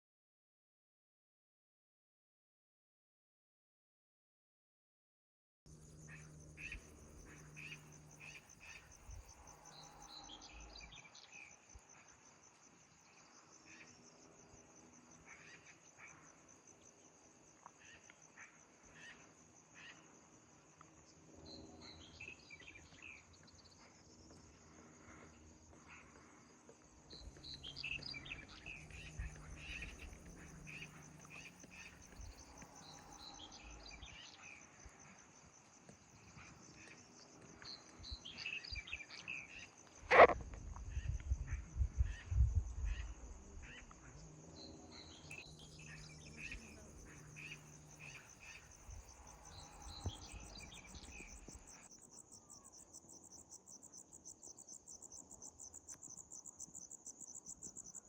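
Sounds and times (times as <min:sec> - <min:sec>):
insects trilling: 0:05.7 - 0:58.0.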